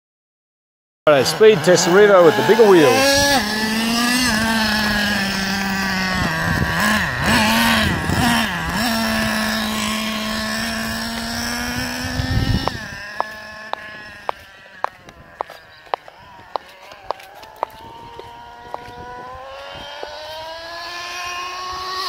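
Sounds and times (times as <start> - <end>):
rc truck engine screaming: 1.1 - 22.0.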